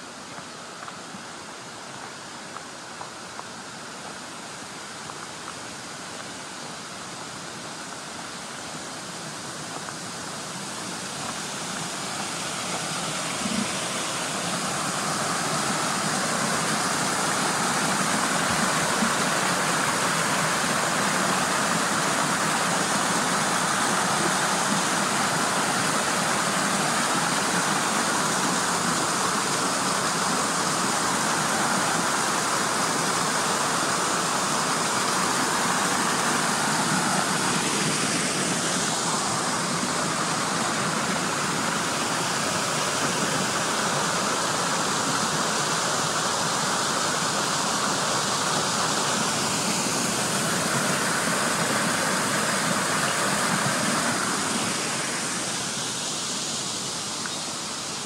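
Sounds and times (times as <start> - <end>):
waterfall and creek rushing: 0.0 - 58.0.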